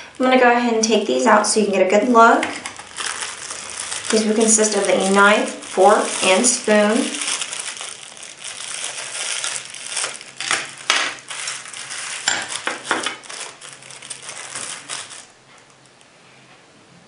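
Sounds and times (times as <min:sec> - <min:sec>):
plastic sleeves crinkling: 0:00.0 - 0:16.0.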